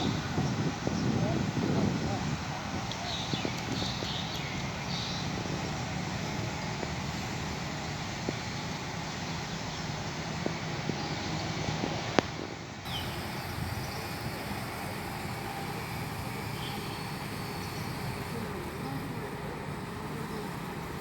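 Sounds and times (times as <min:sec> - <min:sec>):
machinery engine rumble: 0:00.0 - 0:21.0.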